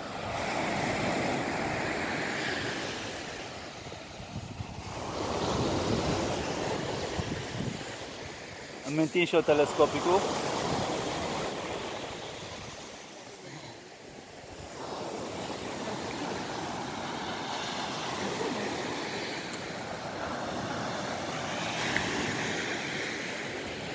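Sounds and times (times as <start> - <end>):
surf washing up a beach: 0.0 - 23.9.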